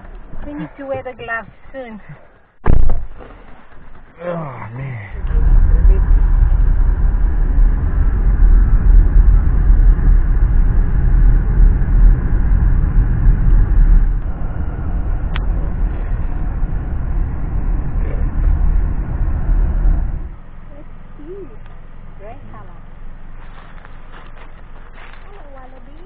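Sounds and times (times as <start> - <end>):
car tyre and engine rumble: 0.0 - 26.0.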